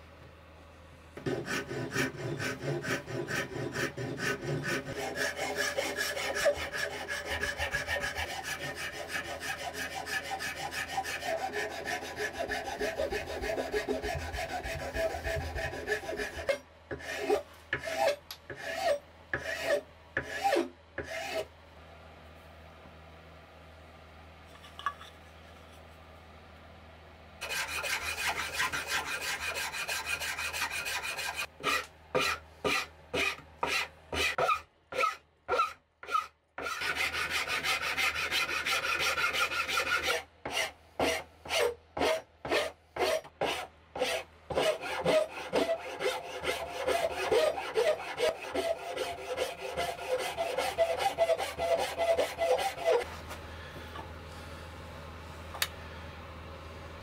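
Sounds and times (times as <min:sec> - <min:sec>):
rasp scraping wood: 0:01.2 - 0:21.4, 0:27.4 - 0:53.1.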